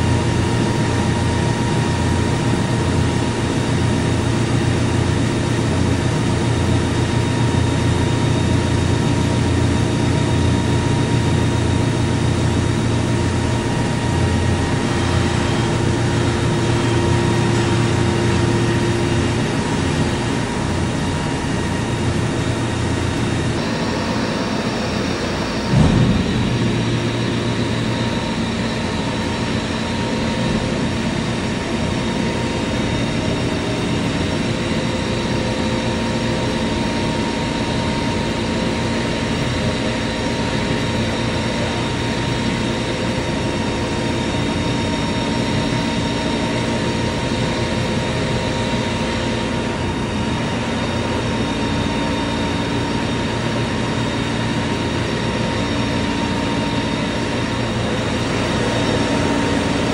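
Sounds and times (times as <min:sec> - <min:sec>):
crane machinery drone: 0:00.0 - 0:59.9
mechanical whine: 0:00.0 - 0:59.9.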